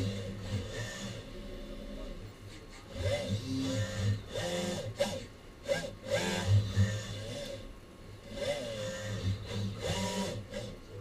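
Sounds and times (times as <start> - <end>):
robot arm servos whirring: 0.0 - 2.0, 2.8 - 11.0.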